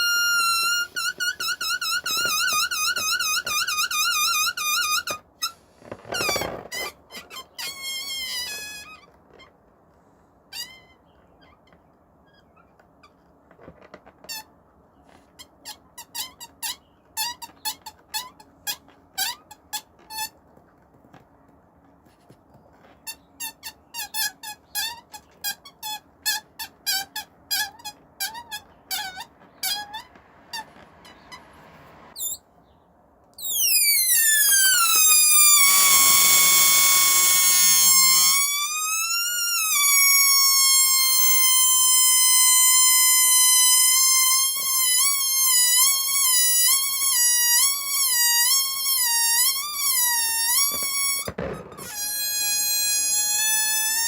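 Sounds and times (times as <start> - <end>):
balloon neck squeaking: 0.0 - 9.6, 10.5 - 20.5, 22.8 - 32.4, 33.4 - 54.0.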